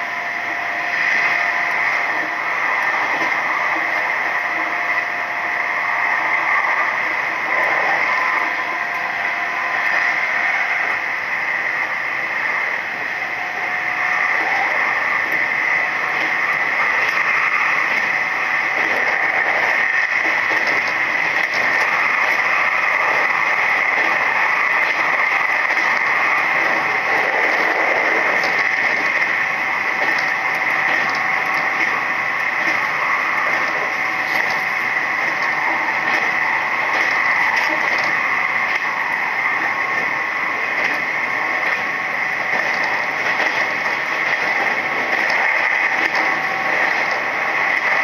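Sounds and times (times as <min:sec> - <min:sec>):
train wheels rolling on rails: 0:00.0 - 0:48.0.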